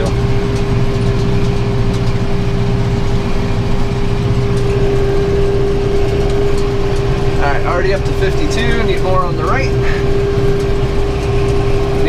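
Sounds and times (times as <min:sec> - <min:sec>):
baler whine: 0:00.0 - 0:12.0
tractor engine rumble: 0:00.0 - 0:12.0.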